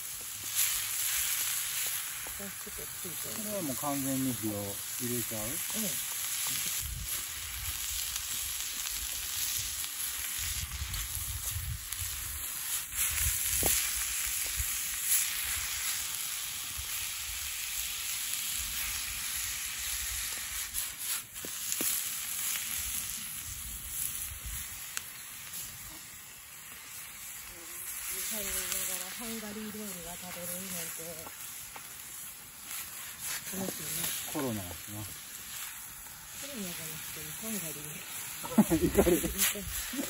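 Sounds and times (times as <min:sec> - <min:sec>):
meat sizzling in a skillet: 0:00.0 - 0:40.0.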